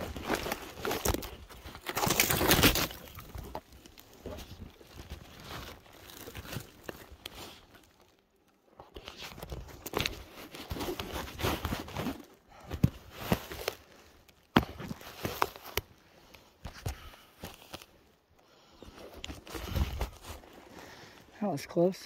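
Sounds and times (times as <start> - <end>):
rustling and crunching: 0.0 - 21.4.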